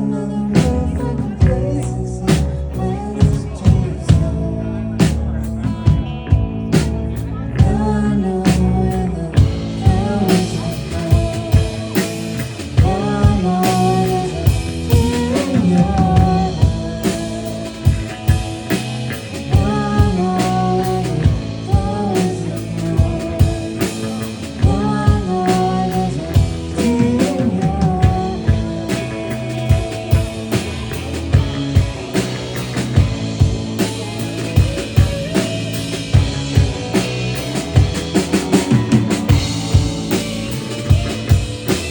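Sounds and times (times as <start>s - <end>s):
wavering melodic lead line: 0.0s - 41.9s
drum kit beat: 0.6s - 41.9s.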